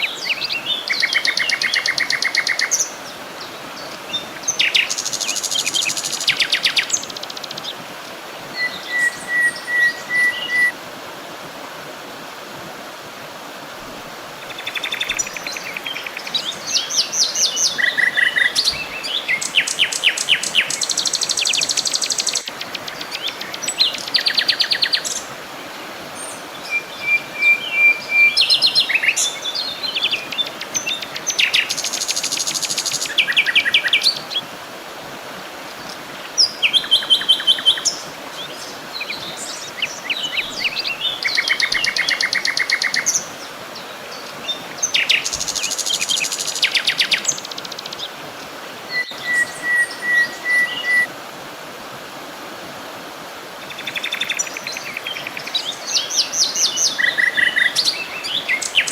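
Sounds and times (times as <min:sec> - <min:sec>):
songbirds singing: 0:00.0 - 0:10.8, 0:14.3 - 0:34.6, 0:35.6 - 0:51.1, 0:53.5 - 0:58.9
background hiss: 0:00.0 - 0:58.9.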